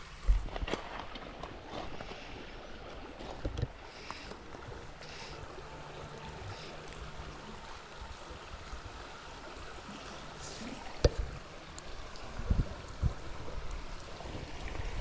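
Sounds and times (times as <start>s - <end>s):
river water running: 0.0s - 15.0s.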